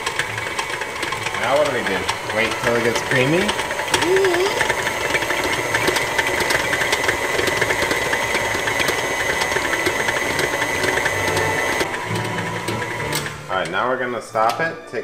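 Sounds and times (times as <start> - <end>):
fast ticking: 0.0 - 12.8
stand mixer motor whining: 0.0 - 14.0.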